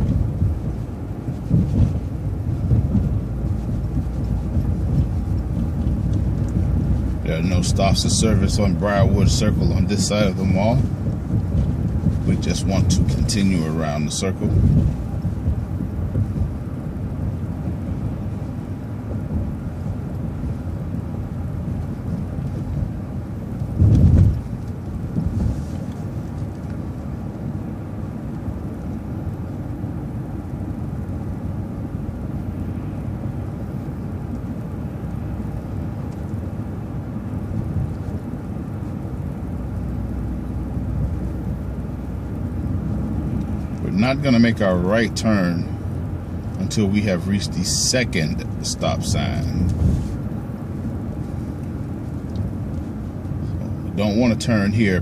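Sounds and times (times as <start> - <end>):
vehicle interior road rumble: 0.0 - 55.0.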